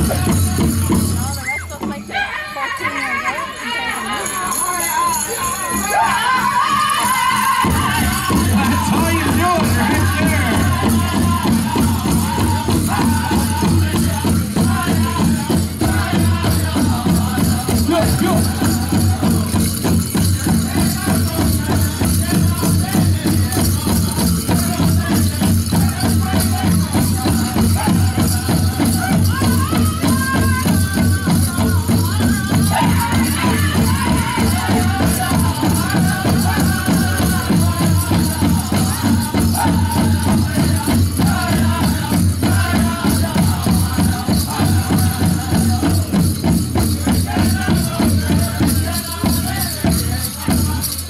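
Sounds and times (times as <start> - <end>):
dancers' bells jingling: 0.0 - 51.0
men singing high notes: 0.0 - 51.0
large drum beating fast: 7.4 - 50.8.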